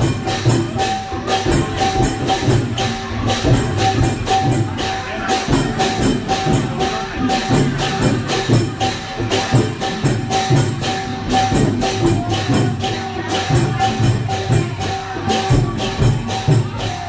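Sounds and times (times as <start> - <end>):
cymbal strokes: 0.0 - 17.0.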